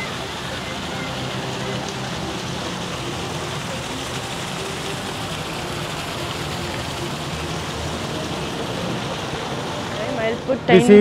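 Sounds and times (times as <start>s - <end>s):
fountain jets splashing into pool: 0.0s - 11.0s.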